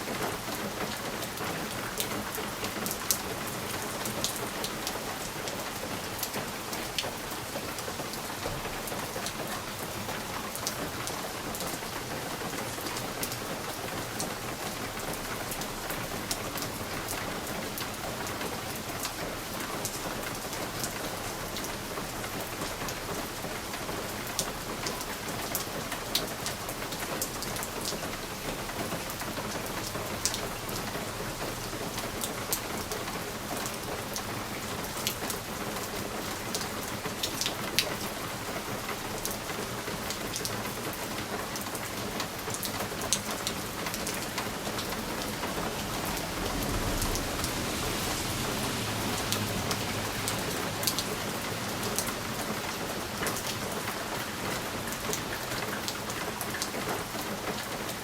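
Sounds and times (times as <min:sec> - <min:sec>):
rain pattering on window: 0:00.0 - 0:58.0.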